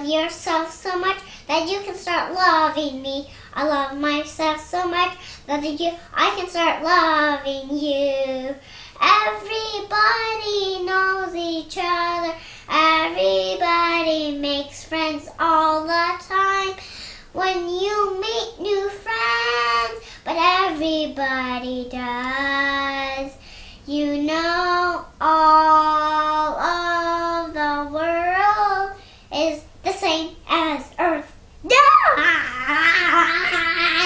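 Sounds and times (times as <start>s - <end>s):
girl singing: 0.0s - 34.0s.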